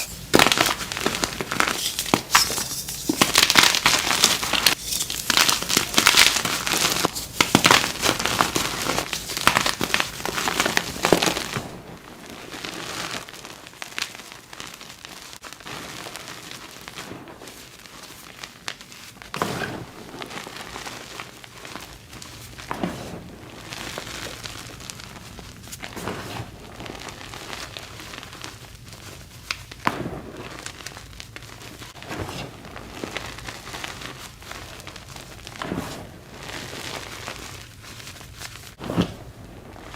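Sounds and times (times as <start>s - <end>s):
chalk crunching and crumbling: 0.0s - 11.7s, 17.0s - 39.1s.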